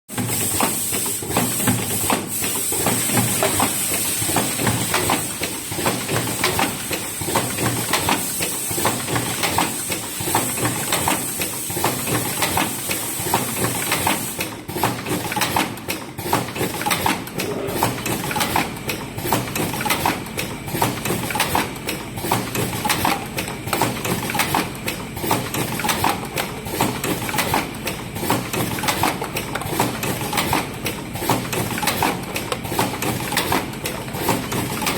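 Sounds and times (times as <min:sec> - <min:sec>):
cartoning machine clattering: 0:02.8 - 0:34.9.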